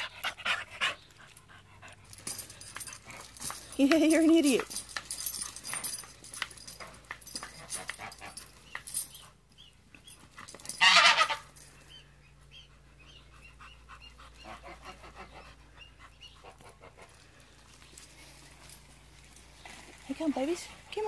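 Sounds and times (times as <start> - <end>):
chain clinking: 0.3 - 21.0.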